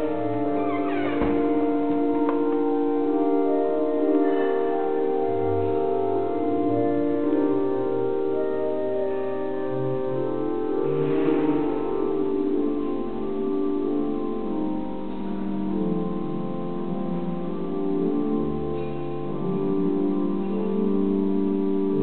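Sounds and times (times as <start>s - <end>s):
church organ chords: 0.0s - 22.0s.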